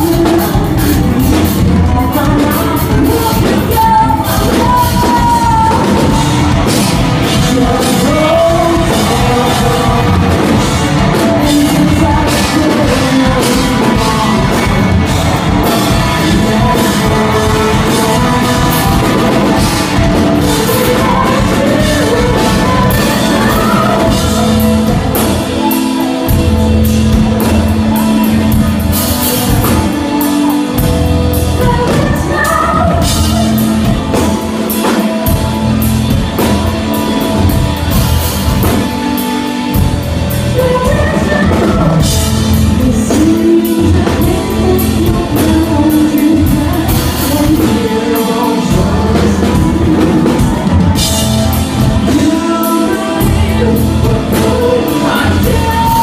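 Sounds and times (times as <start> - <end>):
person singing: 0.0 - 56.0
rock band playing: 0.0 - 56.0.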